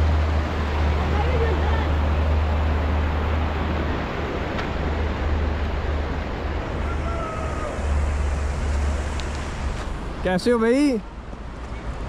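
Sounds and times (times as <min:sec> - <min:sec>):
fast river rushing: 0:00.0 - 0:12.0.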